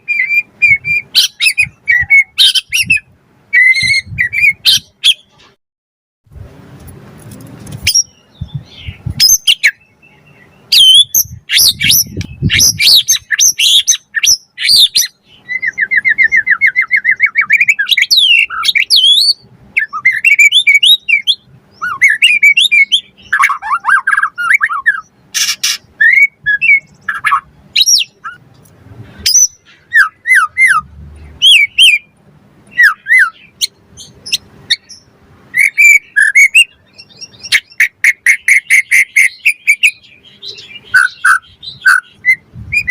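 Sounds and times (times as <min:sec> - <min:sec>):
bird singing whistled song: 0:00.0 - 0:05.4, 0:07.8 - 0:28.4, 0:29.2 - 0:42.9.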